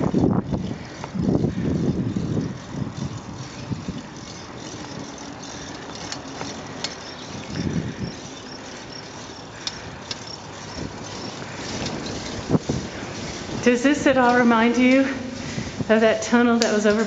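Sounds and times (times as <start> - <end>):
bicycle riding rush: 0.0 - 17.0
light clicks and rattles: 0.0 - 17.0.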